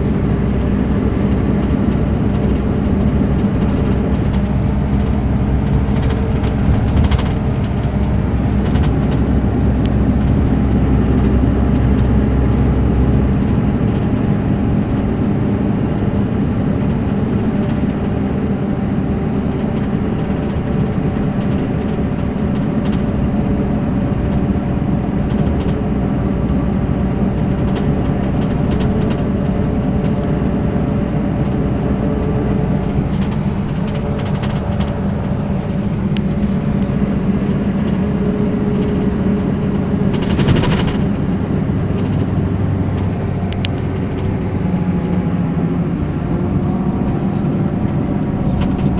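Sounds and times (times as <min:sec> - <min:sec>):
deep rumble: 0:00.0 - 0:48.9
diesel engine humming: 0:00.0 - 0:48.9.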